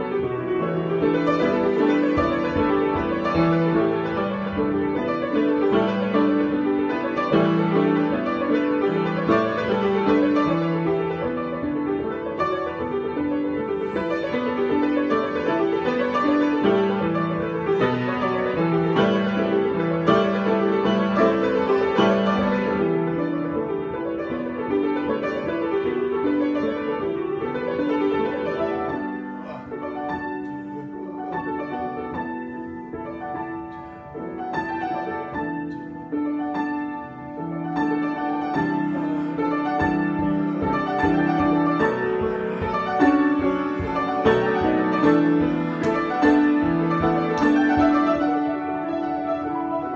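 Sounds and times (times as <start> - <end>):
solo piano improvisation: 0.0 - 49.9.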